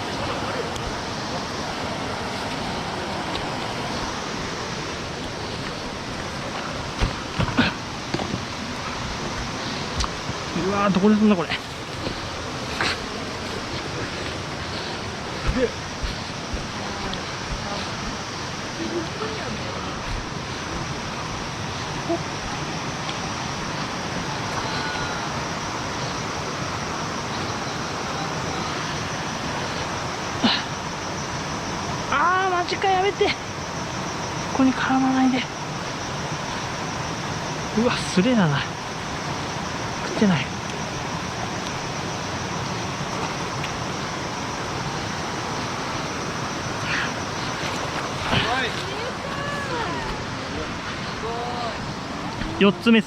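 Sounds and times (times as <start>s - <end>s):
mountain stream rushing: 0.0s - 53.0s.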